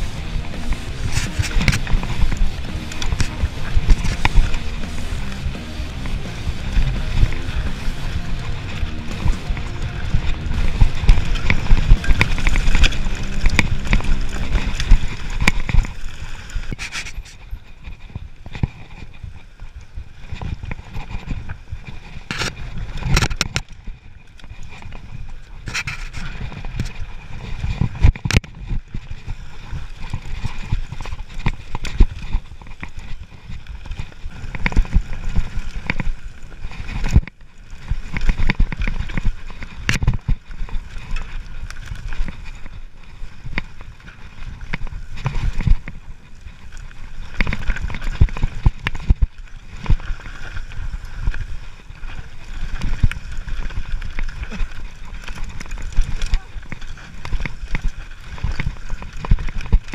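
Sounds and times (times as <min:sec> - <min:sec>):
tyres rumbling on dirt: 0:00.0 - 0:59.9
bike frame clunks and rattles: 0:00.2 - 0:19.6, 0:20.2 - 0:59.9.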